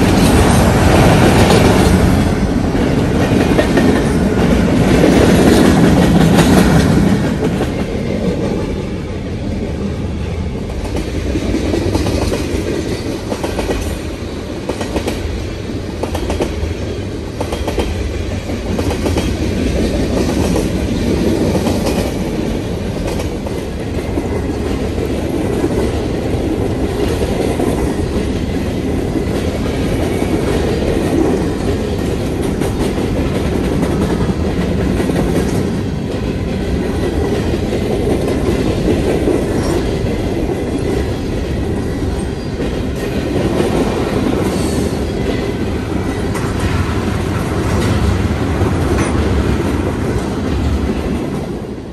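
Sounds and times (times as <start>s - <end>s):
train wheels clattering on rails: 0.0s - 51.9s.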